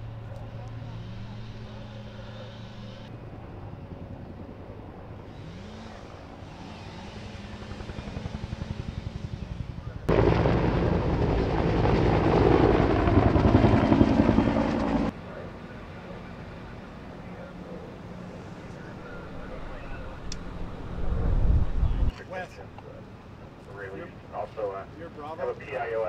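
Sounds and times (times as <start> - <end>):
aircraft roaring low overhead: 0.0 - 26.0.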